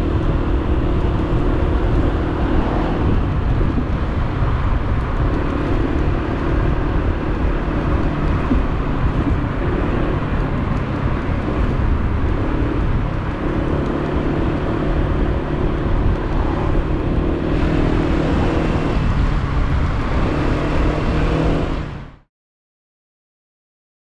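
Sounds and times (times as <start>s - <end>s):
scooter engine cruising: 0.0s - 22.0s
wind rumble on microphone: 0.0s - 22.3s.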